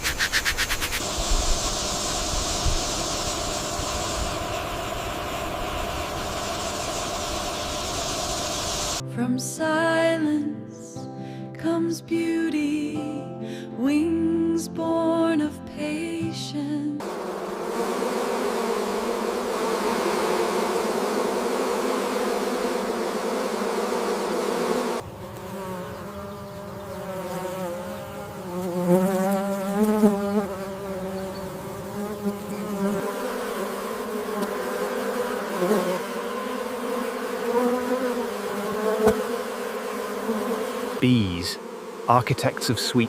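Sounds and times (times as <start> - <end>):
insects buzzing in flight: 0.0 - 9.0, 17.0 - 43.0.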